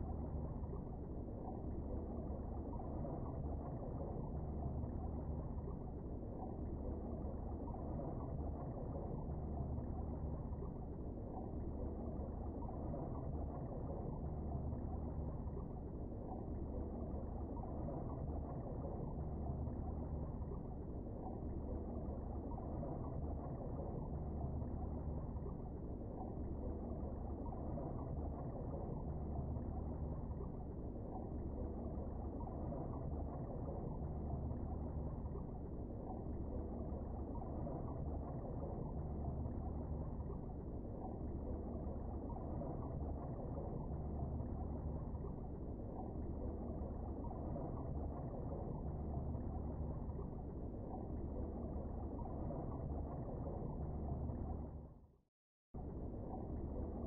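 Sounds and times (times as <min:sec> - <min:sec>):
muffled underwater rumble: 0:00.0 - 0:55.2, 0:55.8 - 0:57.0
low hum: 0:00.0 - 0:57.0.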